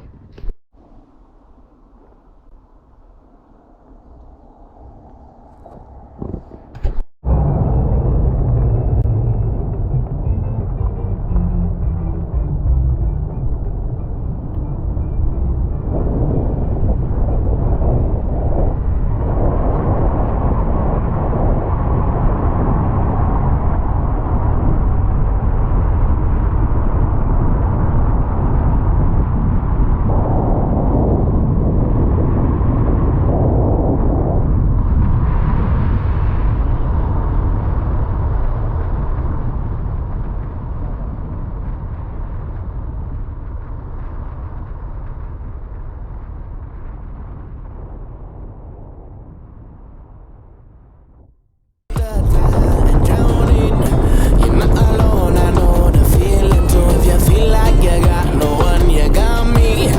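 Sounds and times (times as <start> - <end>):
loud low rumble: 2.6 - 42.9, 51.9 - 59.9.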